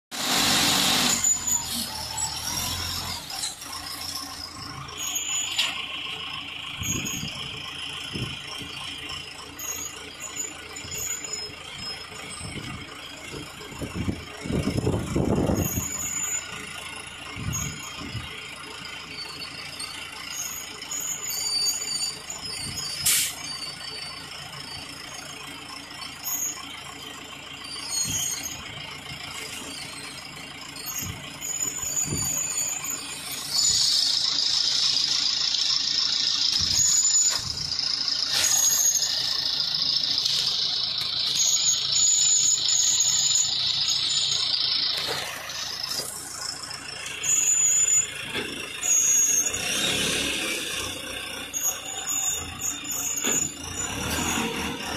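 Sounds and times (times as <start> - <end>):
high mechanical squeaks: 0.3 - 54.9.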